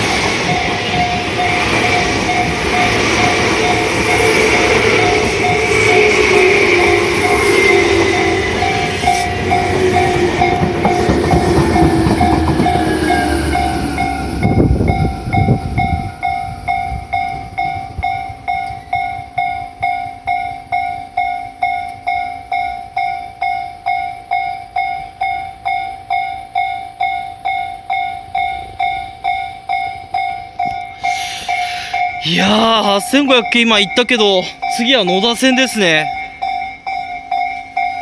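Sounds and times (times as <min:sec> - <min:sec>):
level crossing warning bell: 0:00.0 - 0:38.0
passing train rumbling: 0:00.0 - 0:38.0.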